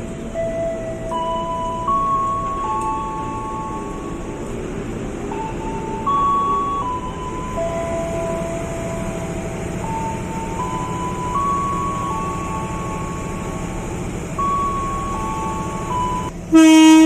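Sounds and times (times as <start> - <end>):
electric train whining: 0.0 - 17.0
train running rumble: 0.0 - 17.0.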